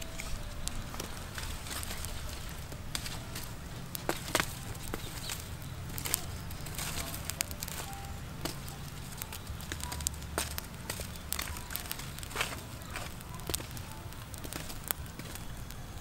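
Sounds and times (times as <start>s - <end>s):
fire crackling: 0.0s - 16.0s
stick raking embers: 0.0s - 16.0s.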